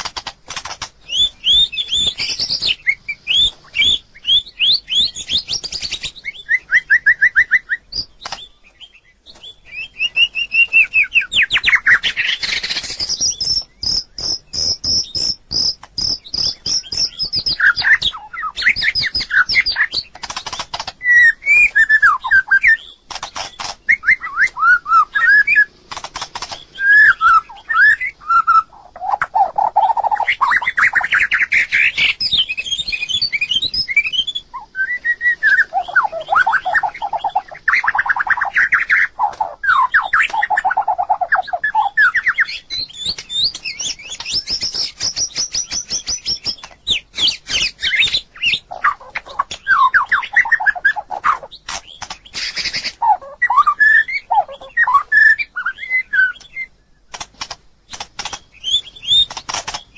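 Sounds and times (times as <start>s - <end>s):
bird singing whistled phrases: 1.0s - 20.1s, 21.0s - 23.0s, 23.6s - 25.7s, 26.7s - 51.5s, 52.3s - 57.0s, 58.5s - 59.4s.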